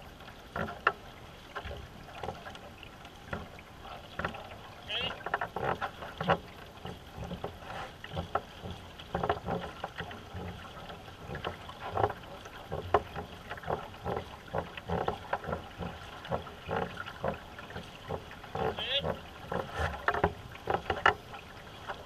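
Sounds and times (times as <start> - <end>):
paddle strokes splashing water: 0.0 - 22.0.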